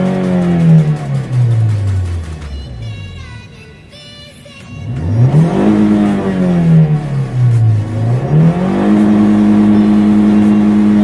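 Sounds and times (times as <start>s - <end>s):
car engine revving: 0.0s - 3.3s, 4.8s - 11.0s.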